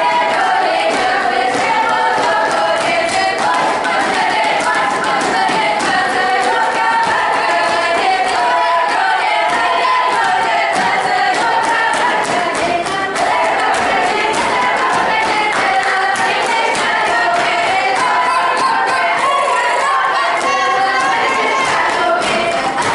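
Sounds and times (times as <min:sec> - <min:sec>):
children singing in chorus: 0:00.0 - 0:22.9
sharp taps keeping a beat: 0:00.0 - 0:22.9.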